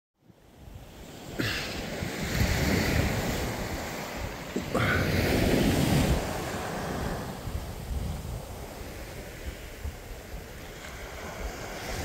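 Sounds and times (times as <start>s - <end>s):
small waves breaking on shore: 0.2s - 12.0s
wind buffeting microphone: 0.4s - 12.0s.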